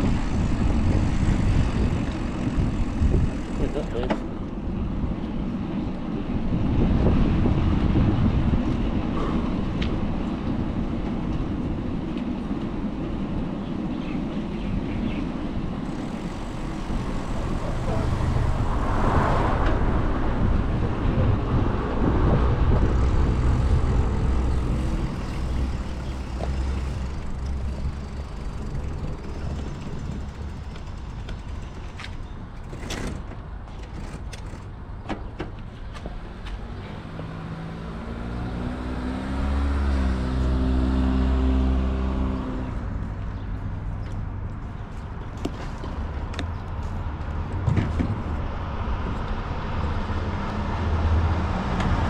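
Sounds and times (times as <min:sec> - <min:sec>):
large vehicle engine hum: 0:00.0 - 0:52.0
passing cars and trucks: 0:00.0 - 0:52.0.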